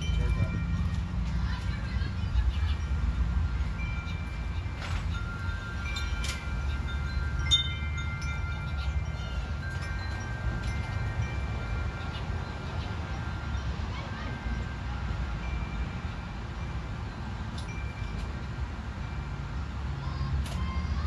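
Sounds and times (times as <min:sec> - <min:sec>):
wind chimes ringing: 0:00.0 - 0:21.0.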